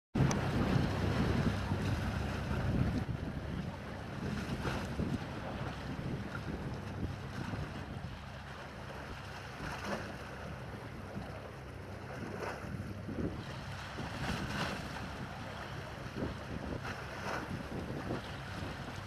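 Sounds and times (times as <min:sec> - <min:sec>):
sea water washing: 0:00.2 - 0:19.0
wind buffeting microphone: 0:00.2 - 0:19.0.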